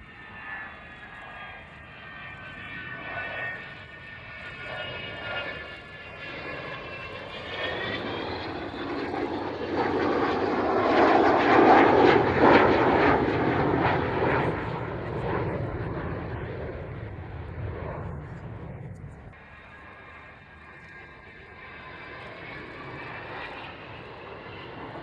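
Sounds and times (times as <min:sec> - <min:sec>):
jet aircraft passing: 0:00.0 - 0:25.0.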